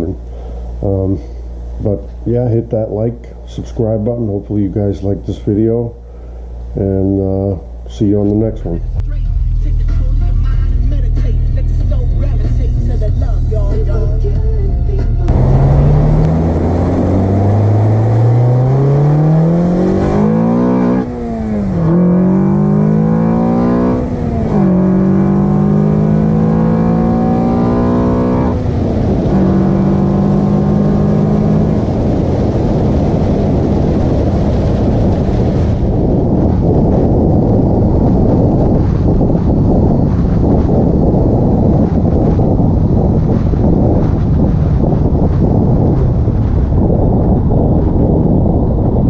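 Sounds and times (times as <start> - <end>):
road and wind noise: 0.0 - 49.0
car engine accelerating: 8.8 - 49.0.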